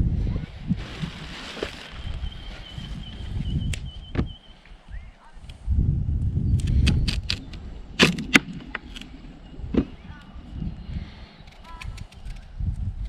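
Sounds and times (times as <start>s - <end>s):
low rumble of handling: 0.0s - 13.0s.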